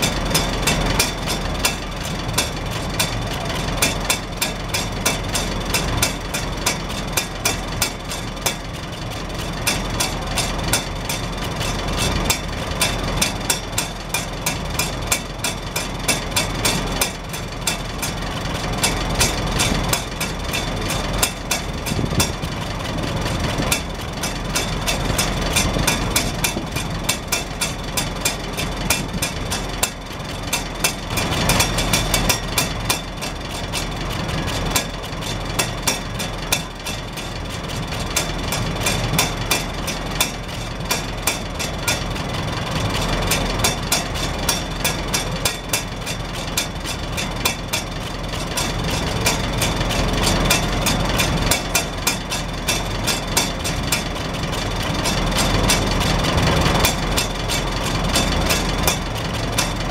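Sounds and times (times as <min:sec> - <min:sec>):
tractor engine idling: 0:00.0 - 0:59.9.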